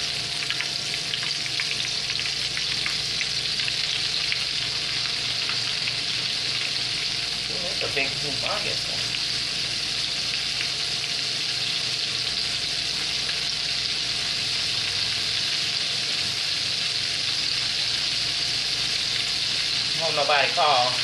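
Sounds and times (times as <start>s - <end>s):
chicken deep-frying sizzle: 0.0s - 21.0s.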